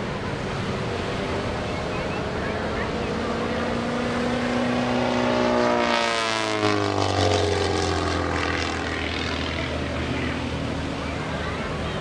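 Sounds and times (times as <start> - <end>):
propeller plane engine in flight: 0.0 - 12.0.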